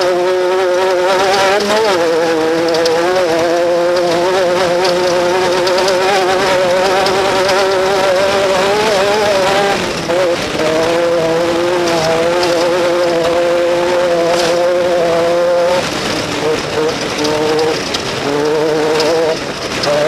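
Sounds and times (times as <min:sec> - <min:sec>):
race vehicle engine revving high: 0:00.0 - 0:20.0.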